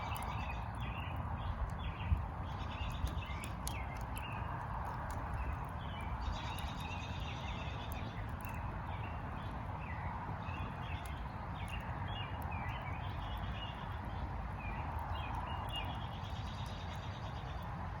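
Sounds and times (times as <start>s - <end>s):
burning firewood crackling: 0.0s - 18.0s
small birds chirping and twittering: 0.0s - 18.0s.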